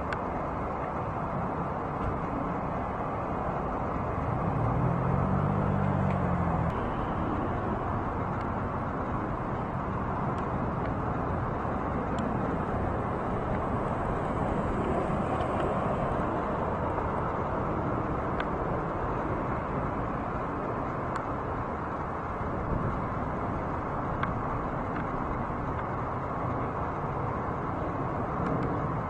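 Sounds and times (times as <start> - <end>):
distant engine and traffic rumble: 0.0 - 29.0.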